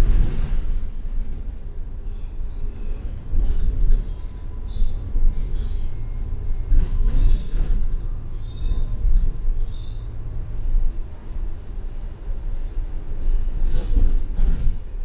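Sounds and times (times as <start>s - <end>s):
bus clatter: 0.0s - 15.0s
bus engine and road rumble: 0.0s - 15.0s.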